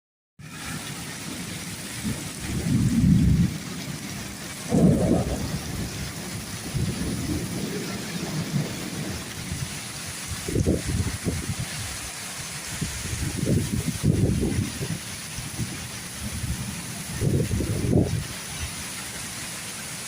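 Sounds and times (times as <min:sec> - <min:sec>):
thunder rumbles: 0:00.4 - 0:18.4
heavy rain falling: 0:00.4 - 0:20.0.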